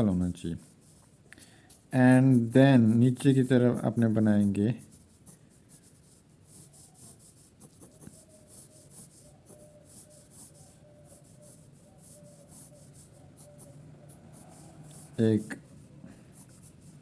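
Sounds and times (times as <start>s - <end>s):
drawing tool scratching paper: 0.0s - 17.0s.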